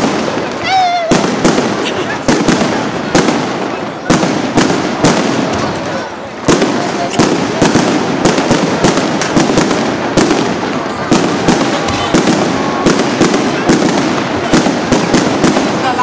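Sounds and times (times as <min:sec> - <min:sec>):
continuous noisy background: 0:00.0 - 0:16.0
fireworks bangs: 0:00.0 - 0:16.0.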